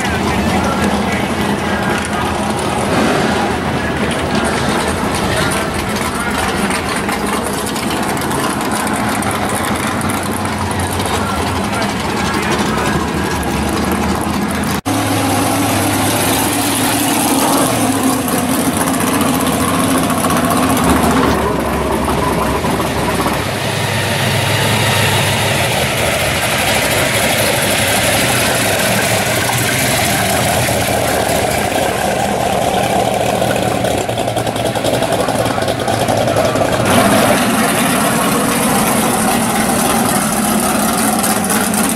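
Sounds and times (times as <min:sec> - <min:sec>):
car engine idling loudly: 0:00.0 - 0:41.9.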